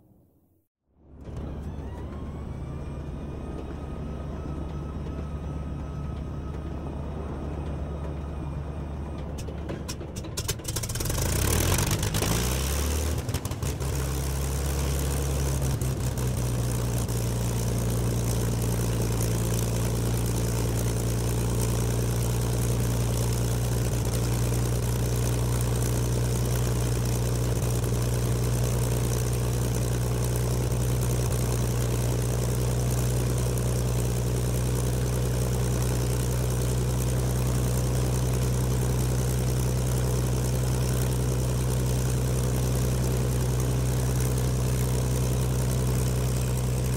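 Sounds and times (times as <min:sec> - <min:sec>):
heavy engine starting and idling: 0:01.0 - 0:46.9.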